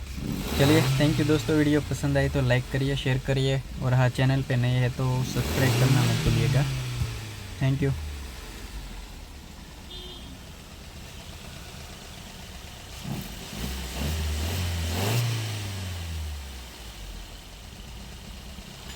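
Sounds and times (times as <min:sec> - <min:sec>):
car engine idling and revving: 0:00.0 - 0:18.9.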